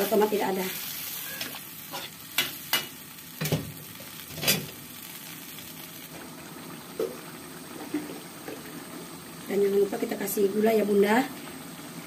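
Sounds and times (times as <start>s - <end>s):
sauce bubbling in a wok: 0.0s - 12.0s.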